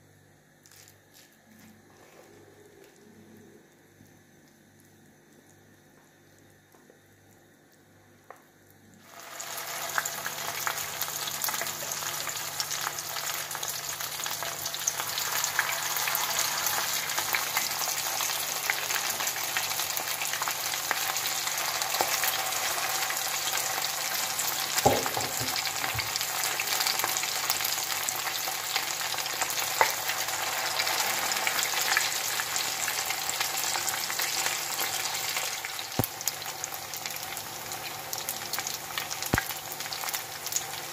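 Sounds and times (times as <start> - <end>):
patties sizzling in oil: 3.0 - 40.9.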